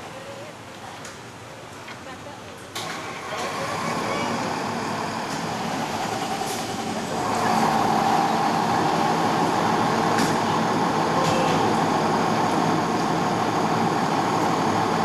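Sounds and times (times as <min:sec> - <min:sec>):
diesel truck engines running: 0:02.8 - 0:15.0.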